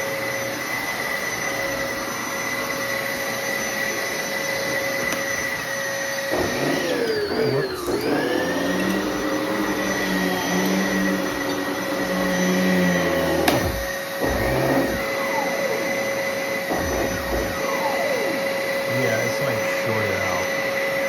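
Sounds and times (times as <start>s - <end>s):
vacuum cleaner whine: 0.0s - 21.0s.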